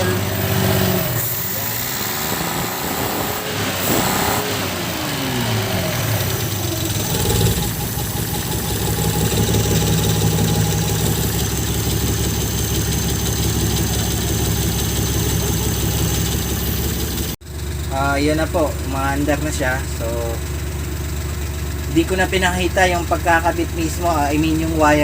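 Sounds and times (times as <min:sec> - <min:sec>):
car engine starting and idling: 0:00.0 - 0:25.0.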